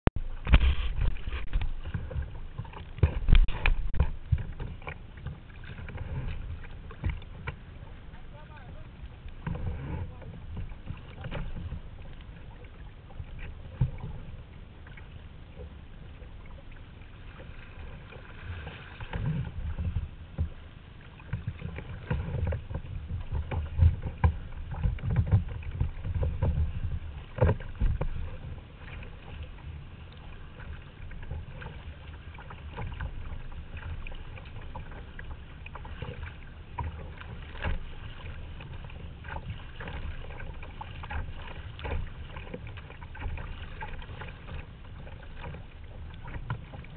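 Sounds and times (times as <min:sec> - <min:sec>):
steady low rumble: 0:00.1 - 0:46.9
paddle splashing in water: 0:00.2 - 0:46.9.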